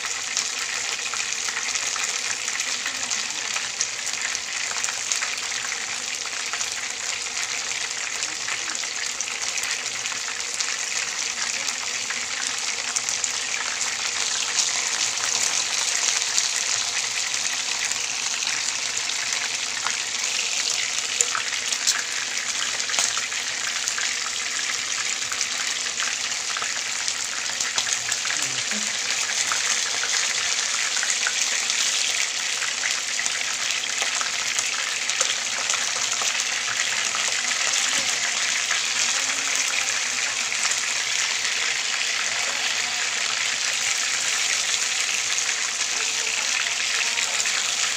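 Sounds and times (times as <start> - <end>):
chicken sizzling in oil: 0.0 - 47.9.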